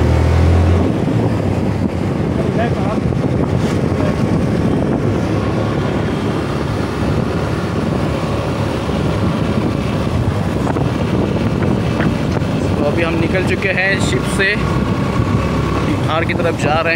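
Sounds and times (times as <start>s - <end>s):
motorcycle engine running: 0.0s - 16.9s
wind rumble on microphone: 0.0s - 16.9s.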